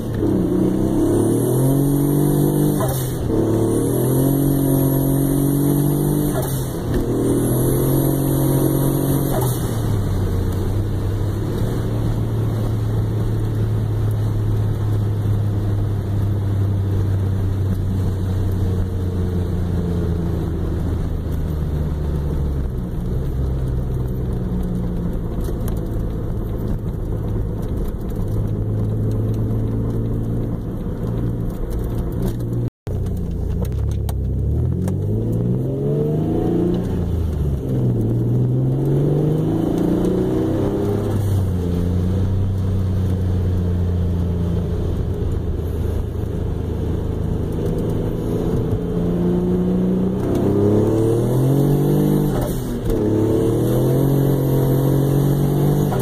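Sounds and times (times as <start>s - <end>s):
car engine cruising and revving: 0.0s - 56.0s.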